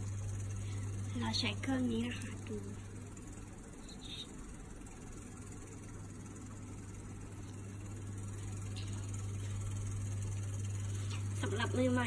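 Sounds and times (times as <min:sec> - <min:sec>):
electrical hum with faint hiss: 0:00.0 - 0:12.0.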